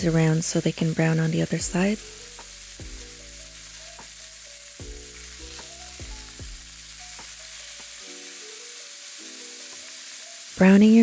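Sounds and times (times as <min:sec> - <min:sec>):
pork sizzling in grease: 0:00.0 - 0:11.0
soft background music: 0:00.0 - 0:11.0.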